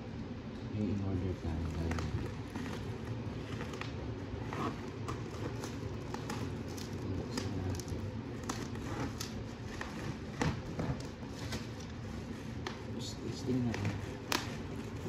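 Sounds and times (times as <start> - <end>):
bubble wrap crinkling: 1.5 - 15.0
scissors cutting plastic: 1.6 - 15.0.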